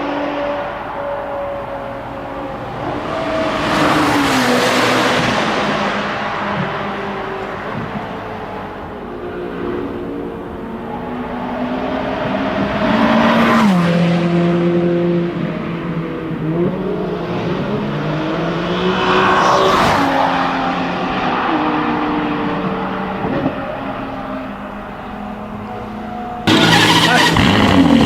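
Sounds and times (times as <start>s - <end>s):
sports car engine driving past: 0.0s - 28.0s.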